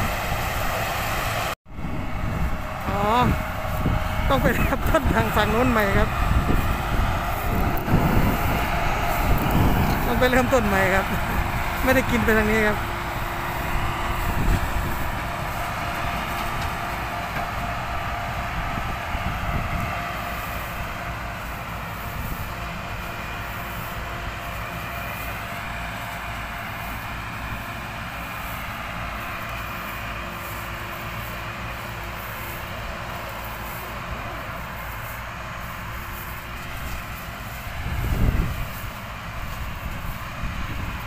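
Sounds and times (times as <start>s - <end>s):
harvester mechanical drone: 0.0s - 41.0s
heavy low rumble: 0.0s - 41.0s.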